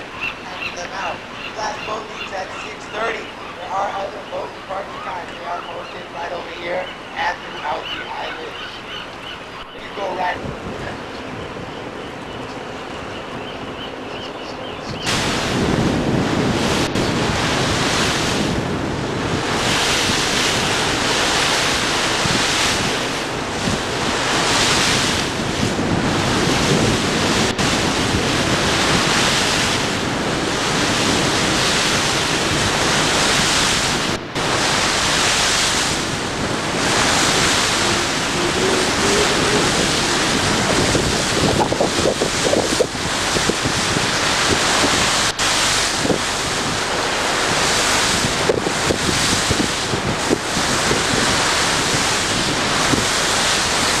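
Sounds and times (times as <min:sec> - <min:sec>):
rushing water: 0:00.0 - 0:54.0
wind buffeting microphone: 0:00.0 - 0:54.0.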